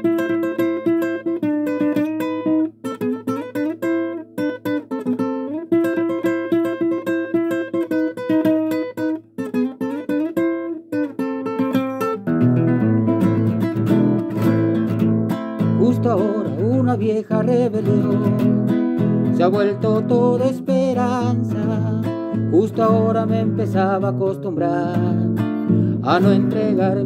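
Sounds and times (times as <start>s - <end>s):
classical guitar melody: 0.0s - 27.0s.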